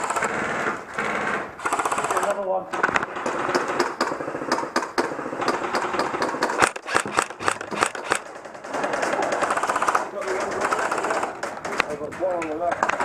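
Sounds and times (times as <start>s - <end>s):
airsoft guns firing: 0.0s - 12.0s, 12.6s - 13.0s.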